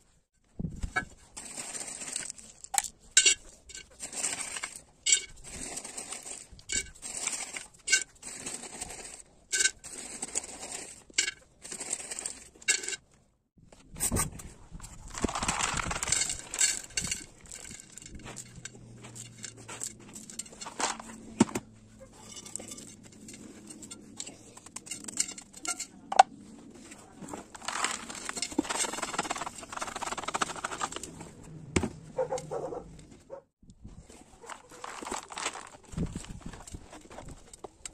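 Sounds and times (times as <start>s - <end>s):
gritty soil rustling and scraping: 0.7s - 13.1s, 14.4s - 31.5s, 33.8s - 37.9s.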